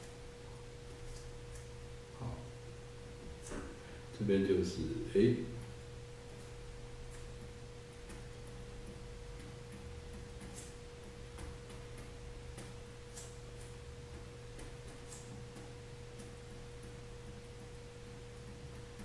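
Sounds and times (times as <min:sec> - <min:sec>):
electrical hum with whine: 0:00.0 - 0:19.0.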